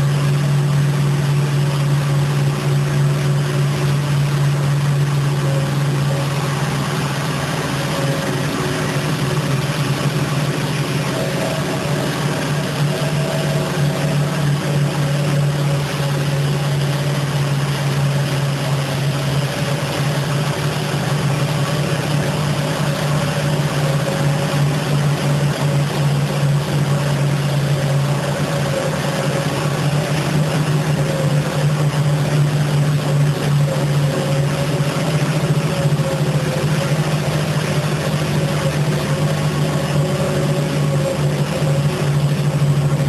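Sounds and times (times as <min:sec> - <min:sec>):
carpet washing machine humming: 0:00.0 - 0:43.0.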